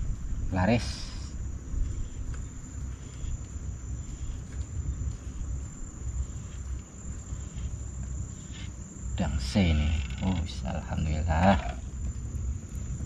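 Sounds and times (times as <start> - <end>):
crickets chirring: 0.0 - 13.0
low uneven rumble: 0.0 - 13.0.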